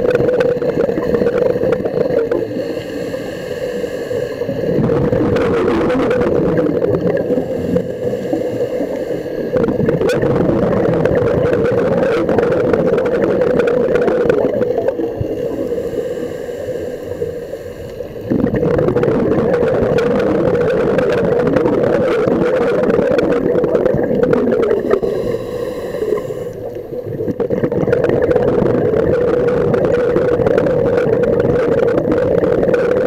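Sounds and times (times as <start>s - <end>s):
low underwater drone: 0.0s - 33.0s
water gurgling: 0.0s - 33.0s.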